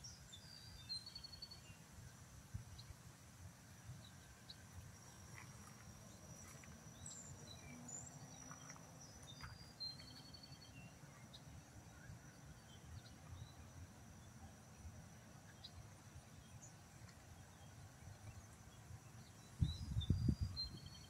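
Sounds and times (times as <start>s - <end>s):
faint bird chirps: 0.0s - 1.8s, 4.0s - 21.0s
thin steady high whine: 0.0s - 21.0s.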